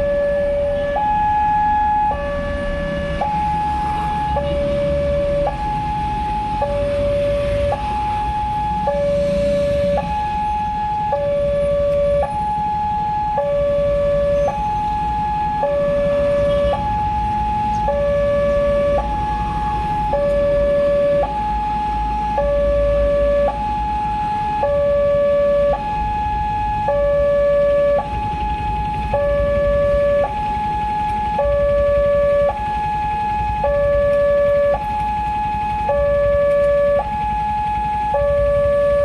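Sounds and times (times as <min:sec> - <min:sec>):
level crossing two-tone alarm: 0:00.0 - 0:39.0.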